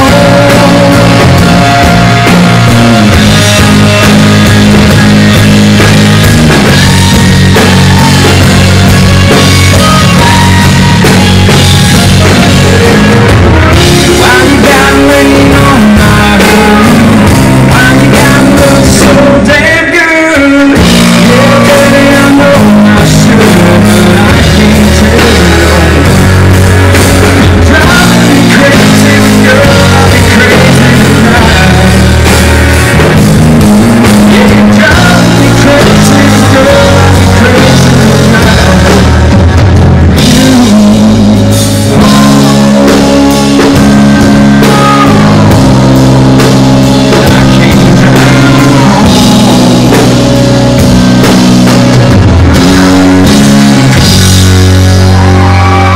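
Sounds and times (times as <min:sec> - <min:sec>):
male lead vocal: 0:00.0 - 0:04.0, 0:07.3 - 0:39.5, 0:40.1 - 0:50.7
live country-rock band: 0:00.0 - 0:55.9.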